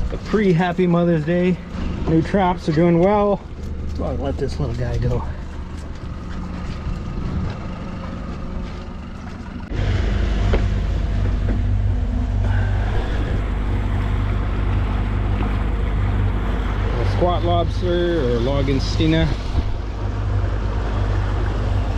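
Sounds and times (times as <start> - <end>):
motorboat engine running: 1.6 - 21.9.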